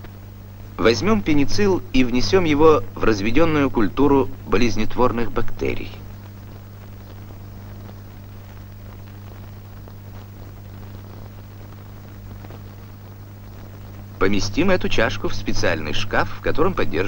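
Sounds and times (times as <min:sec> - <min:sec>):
even hiss: 0:00.0 - 0:17.0.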